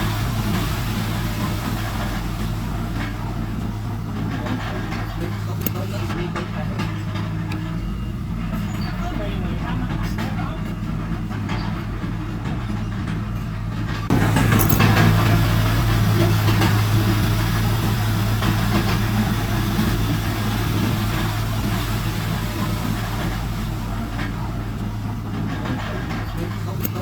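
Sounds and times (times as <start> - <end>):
diesel machinery engine hum: 0.0 - 27.0.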